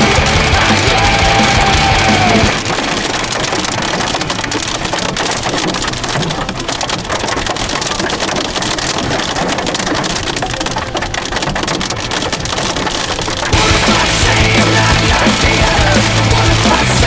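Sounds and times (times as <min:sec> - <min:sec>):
hail clattering on car roof: 0:00.0 - 0:17.0
steady rushing noise: 0:00.0 - 0:17.0.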